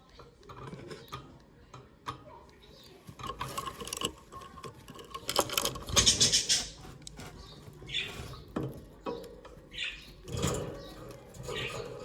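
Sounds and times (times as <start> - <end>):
bird chicks rustling and scratching: 0.0 - 12.0.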